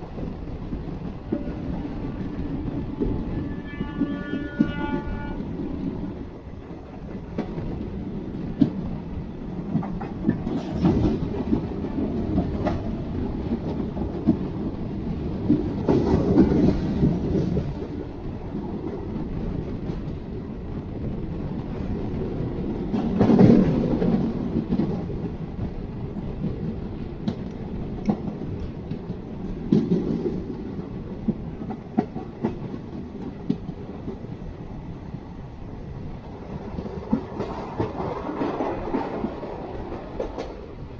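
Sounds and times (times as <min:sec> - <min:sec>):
train coaches rumbling: 0:00.0 - 0:40.9.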